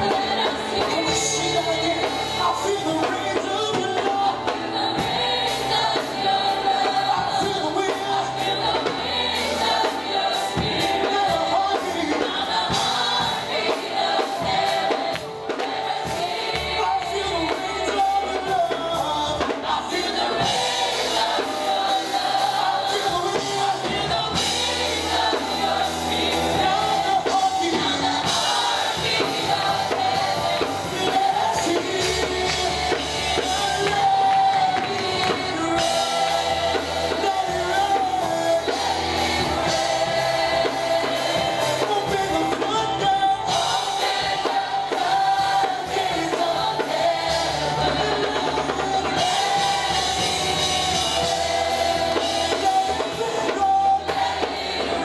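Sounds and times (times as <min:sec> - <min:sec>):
group singing worship song: 0:00.0 - 0:55.0
instrumental backing: 0:00.0 - 0:55.0.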